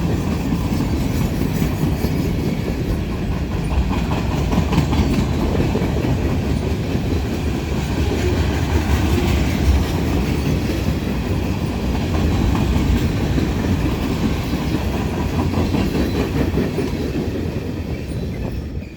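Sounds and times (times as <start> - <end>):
train wheels clacking over rail joints: 0.0 - 18.9.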